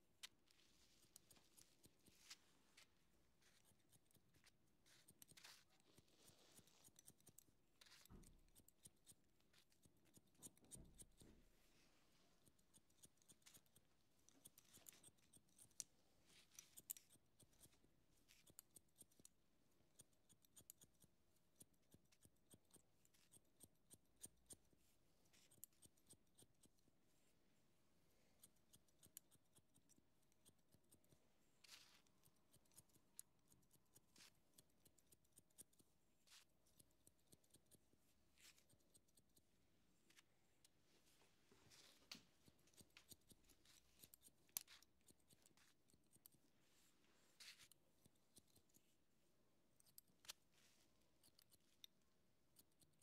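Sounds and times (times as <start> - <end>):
scissors snipping hair: 0.2 - 11.2, 12.4 - 26.9, 28.4 - 39.5, 41.8 - 46.5, 51.2 - 53.0.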